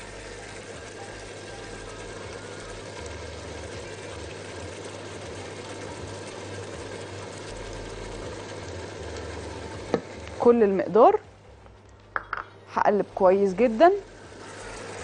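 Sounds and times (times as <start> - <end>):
meat and onions sizzling in oil: 0.0 - 11.1, 11.8 - 15.0.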